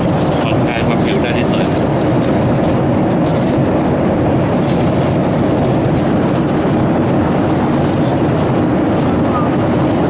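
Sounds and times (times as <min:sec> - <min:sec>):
airliner cabin drone: 0:00.0 - 0:10.0.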